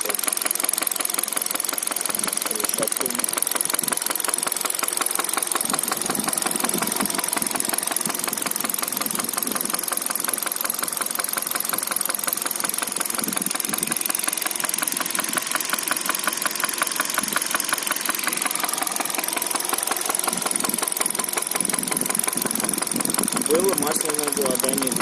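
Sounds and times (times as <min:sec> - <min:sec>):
car engine running with knock: 0:00.0 - 0:25.0.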